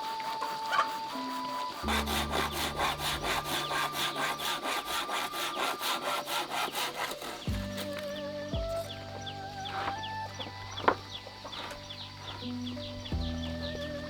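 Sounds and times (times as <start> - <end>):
wood being hand-sawn: 0.0 - 14.0.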